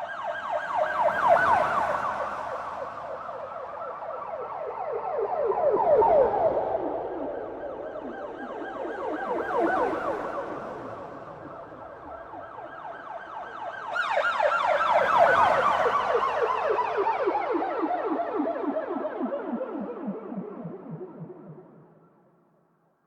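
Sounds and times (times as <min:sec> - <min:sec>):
police car siren: 0:00.0 - 0:22.2.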